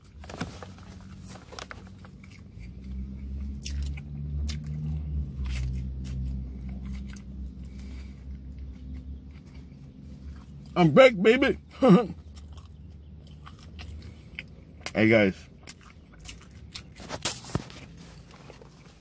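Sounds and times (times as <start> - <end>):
low droning hum: 0.0 - 19.0
man chewing a burger: 0.0 - 19.0.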